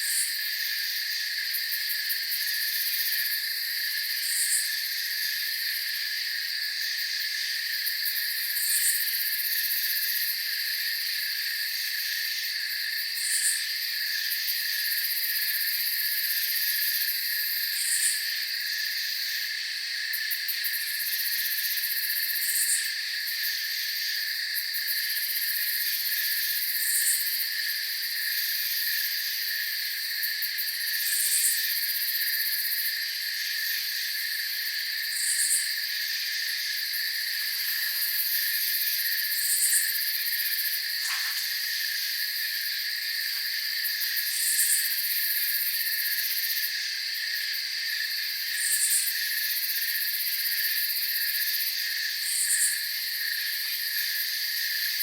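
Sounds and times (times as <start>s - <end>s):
crickets chorus: 0.0s - 55.0s.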